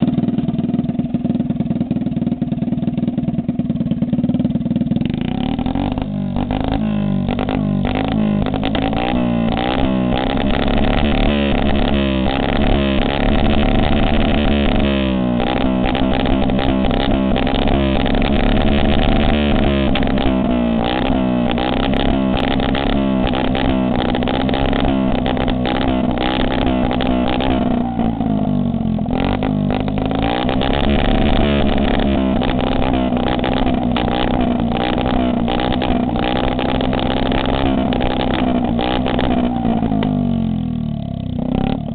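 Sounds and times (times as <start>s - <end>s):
motor engine running: 0.0s - 41.9s.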